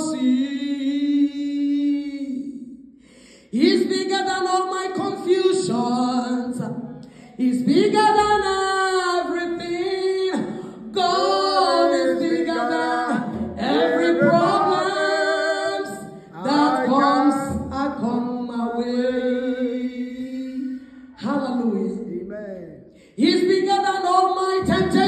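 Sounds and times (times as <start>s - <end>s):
woman singing unaccompanied: 0.0s - 2.5s, 3.5s - 22.0s, 23.2s - 25.0s.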